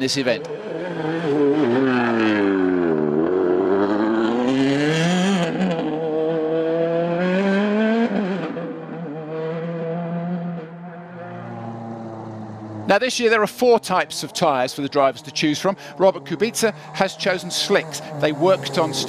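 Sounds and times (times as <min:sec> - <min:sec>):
rally car engine driven hard: 0:00.3 - 0:19.0.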